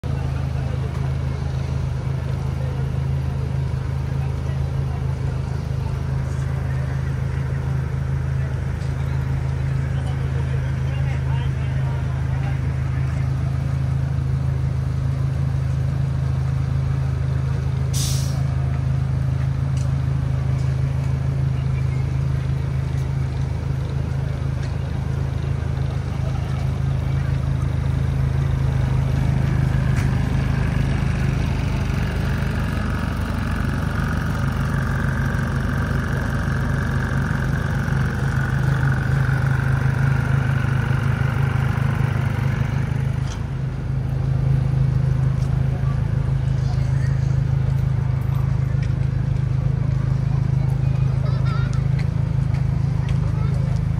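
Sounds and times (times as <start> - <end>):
engine idling hum: 0.0 - 53.9.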